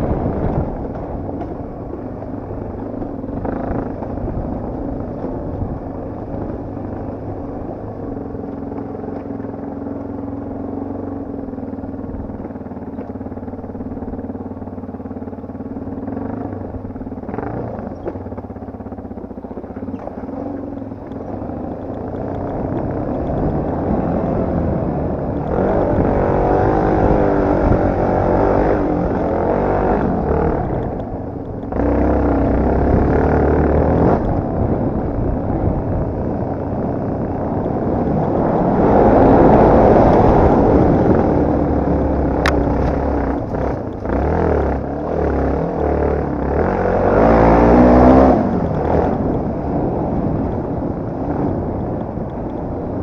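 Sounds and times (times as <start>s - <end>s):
dirt bike engine revving: 0.0s - 7.1s, 12.2s - 51.8s.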